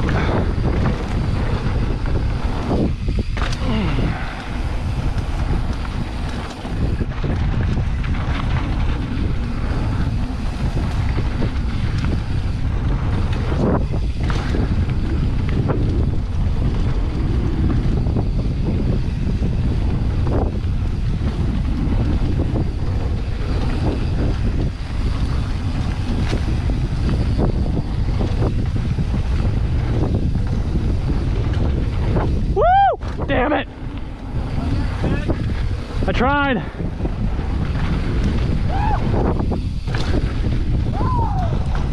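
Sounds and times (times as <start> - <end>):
bike knocking and rattling: 0.0 - 41.9
wind buffeting microphone: 0.0 - 41.9.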